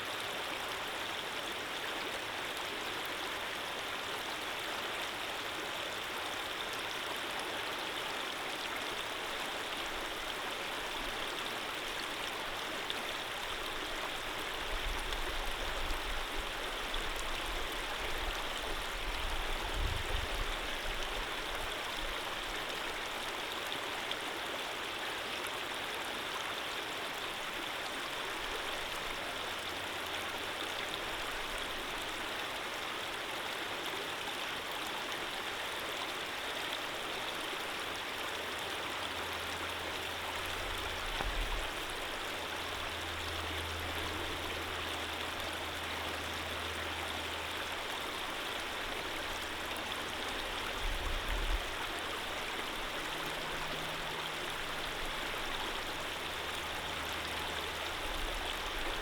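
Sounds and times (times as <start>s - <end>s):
flowing stream rushing: 0.0s - 59.0s.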